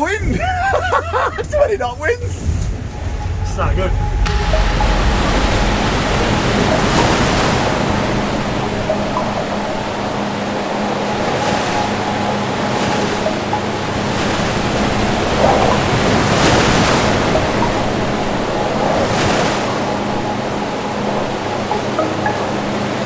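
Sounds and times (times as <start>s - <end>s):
waves splashing: 0.0s - 23.0s
wind buffeting microphone: 1.4s - 23.0s
steady low hum: 2.1s - 23.0s.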